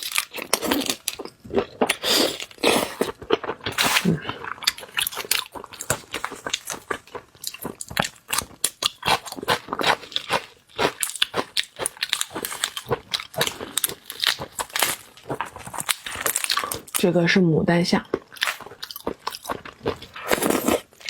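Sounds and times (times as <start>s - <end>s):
person chewing crunchy seafood: 0.0s - 17.0s, 18.0s - 21.0s.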